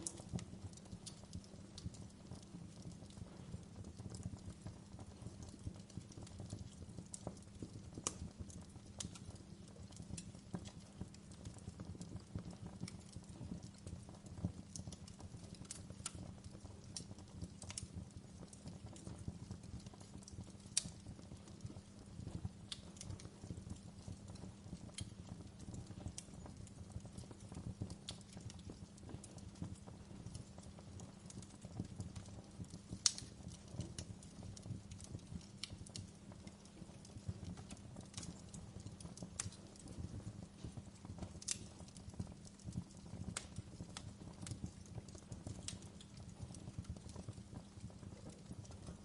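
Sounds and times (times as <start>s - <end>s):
flames rustling: 0.0s - 49.0s
wood fire crackling and popping: 0.0s - 49.0s.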